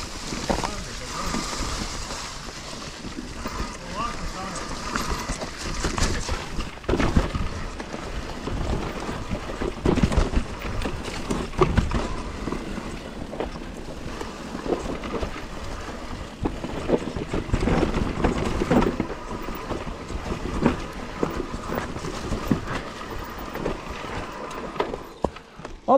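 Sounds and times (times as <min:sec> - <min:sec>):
bike frame clattering over bumps: 0:00.0 - 0:25.9
tyres rolling on dirt: 0:00.0 - 0:25.9.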